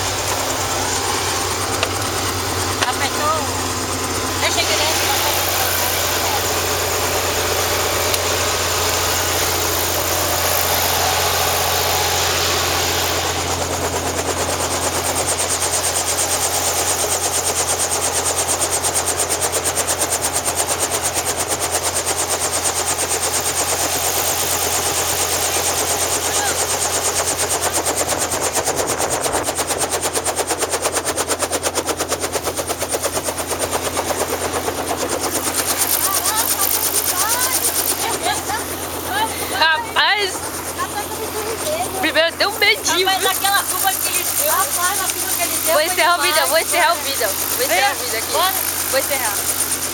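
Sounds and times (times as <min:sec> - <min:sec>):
helicopter rotor chop: 0:00.0 - 0:49.9
helicopter running: 0:00.0 - 0:49.9.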